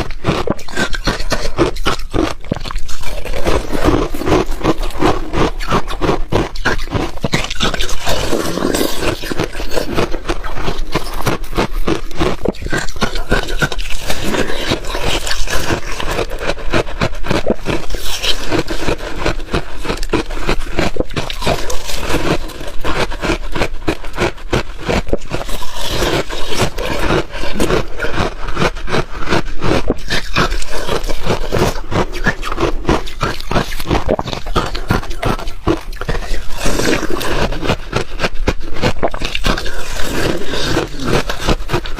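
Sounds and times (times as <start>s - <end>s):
ice being crunched and chewed: 0.0s - 41.9s.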